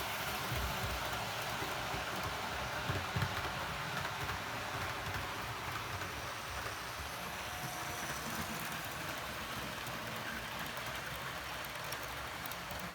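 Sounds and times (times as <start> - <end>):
model trains rumbling on rails: 0.0 - 12.9.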